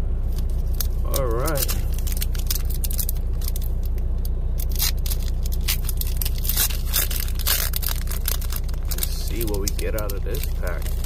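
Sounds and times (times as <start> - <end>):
truck engine idling hum: 0.0 - 11.0
foil wrapper crinkling: 0.3 - 11.0.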